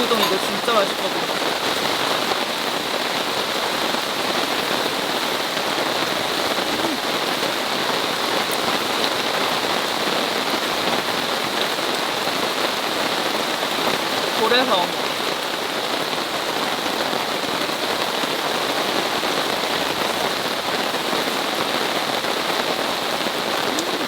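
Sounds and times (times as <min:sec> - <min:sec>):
heavy rain on a tarp: 0:00.0 - 0:24.0.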